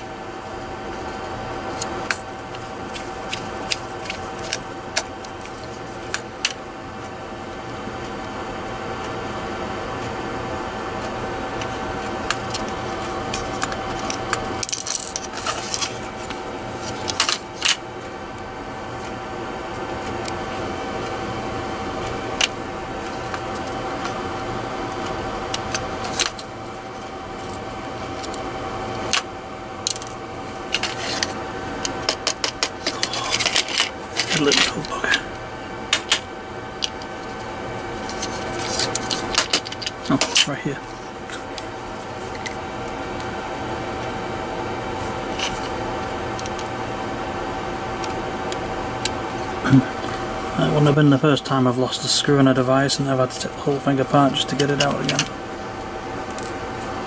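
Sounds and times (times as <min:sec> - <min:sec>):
steady hum with whine: 0:00.0 - 0:57.0.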